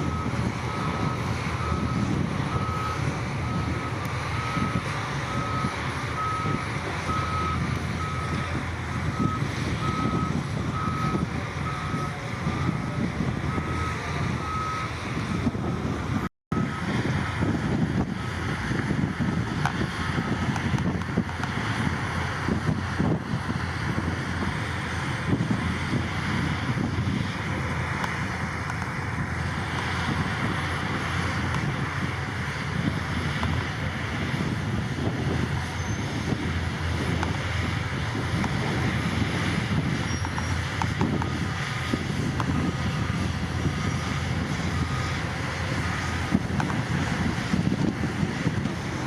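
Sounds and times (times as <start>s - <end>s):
heavy diesel machinery rumbling: 0.0s - 49.0s
wind noise on microphone: 0.0s - 49.0s.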